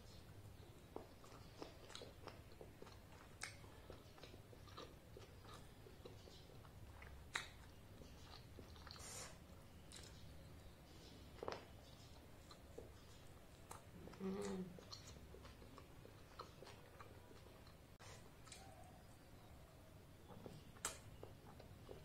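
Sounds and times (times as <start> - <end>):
person chewing soft food: 0.0 - 22.0.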